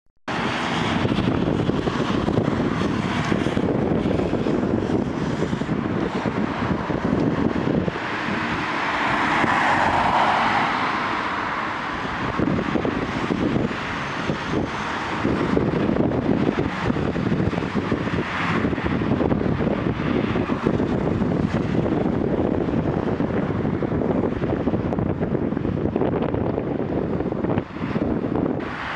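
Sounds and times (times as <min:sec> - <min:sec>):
wind buffeting microphone: 0:00.3 - 0:28.9.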